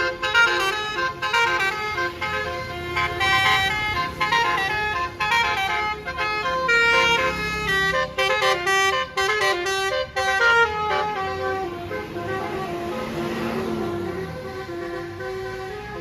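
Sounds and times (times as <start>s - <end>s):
musical bus air horn: 0.0s - 16.0s.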